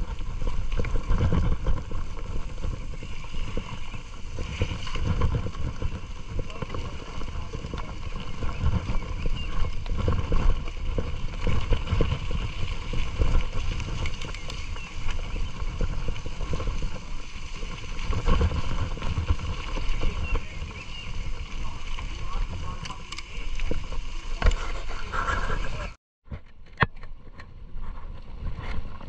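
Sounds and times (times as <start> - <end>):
bike tyres rumbling on dirt: 0.0 - 26.0, 27.2 - 29.0
bike rattling over ruts: 0.0 - 29.0.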